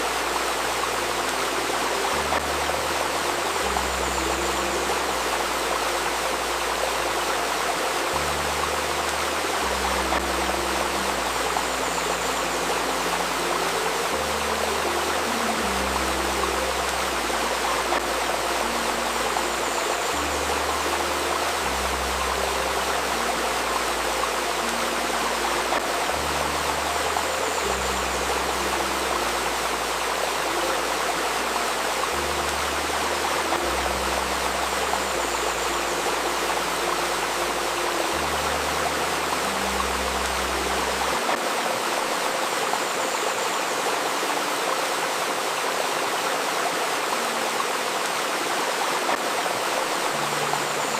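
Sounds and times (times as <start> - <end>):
babbling river: 0.0 - 50.9.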